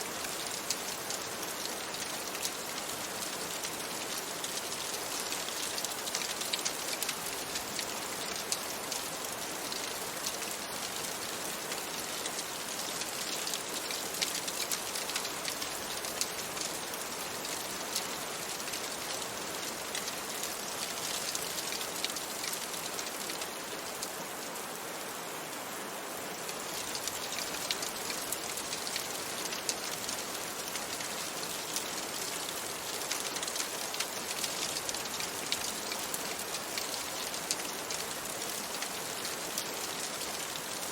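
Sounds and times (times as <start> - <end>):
raindrops ticking on a surface: 0.0 - 24.3, 26.3 - 40.9.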